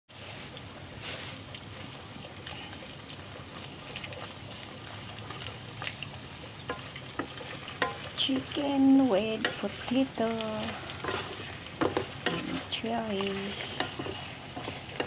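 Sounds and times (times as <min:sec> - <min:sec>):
food sizzling in frying pan: 0:00.1 - 0:15.0.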